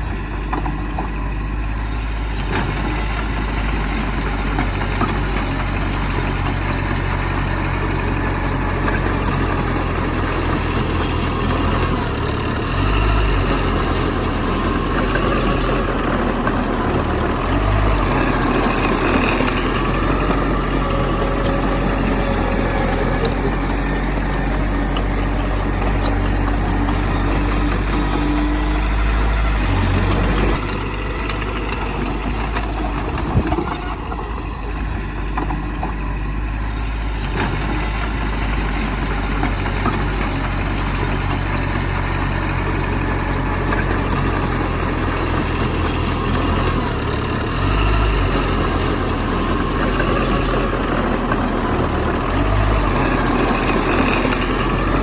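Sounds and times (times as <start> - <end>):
heavy machinery engine rumbling: 0.0 - 55.0.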